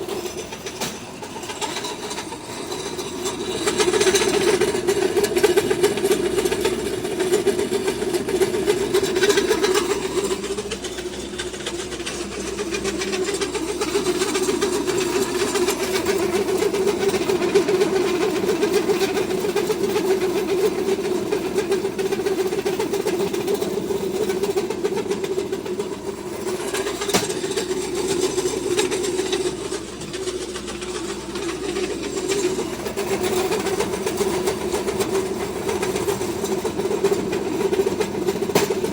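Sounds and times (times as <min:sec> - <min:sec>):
feed mill mechanical drone: 0:00.0 - 0:38.9.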